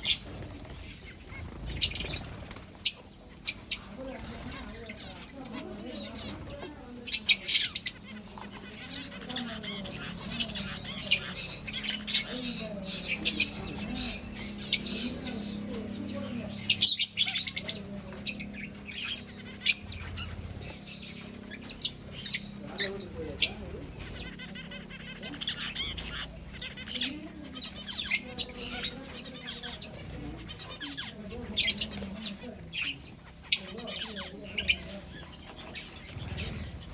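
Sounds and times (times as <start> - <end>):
finches chirping: 0.0 - 36.9
wings fluttering: 0.0 - 36.9.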